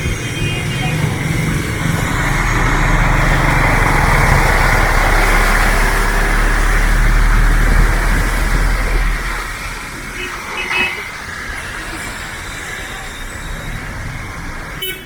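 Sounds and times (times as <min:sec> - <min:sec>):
vehicle engine rumble: 0:00.0 - 0:14.9.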